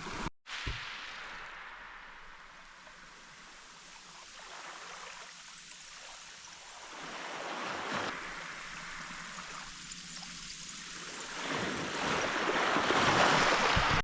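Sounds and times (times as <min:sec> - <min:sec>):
waves washing over beach: 0:00.0 - 0:14.0.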